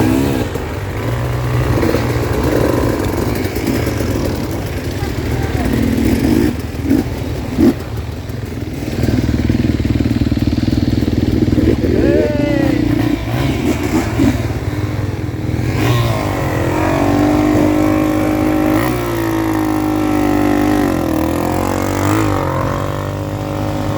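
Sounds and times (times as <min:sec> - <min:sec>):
dirt bike engines revving: 0:00.0 - 0:23.9.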